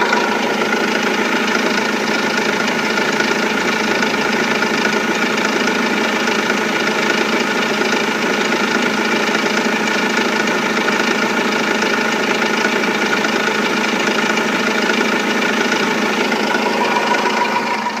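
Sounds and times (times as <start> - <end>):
diesel engine clattering: 0.0 - 18.0.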